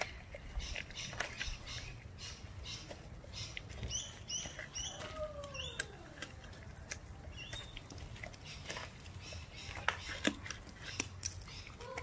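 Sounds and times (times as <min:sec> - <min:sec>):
bird chirping: 0:00.0 - 0:06.2, 0:07.1 - 0:12.0
puppy chewing meat and bone: 0:00.0 - 0:12.0.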